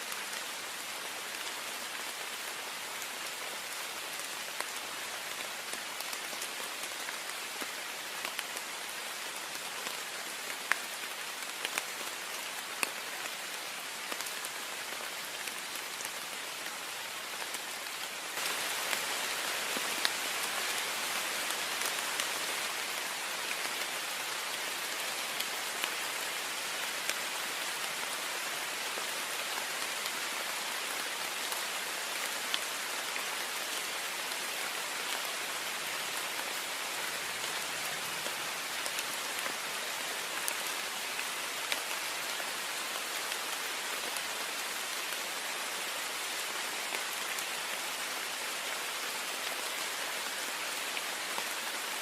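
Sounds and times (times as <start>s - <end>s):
heavy rain on a window: 0.1s - 52.0s.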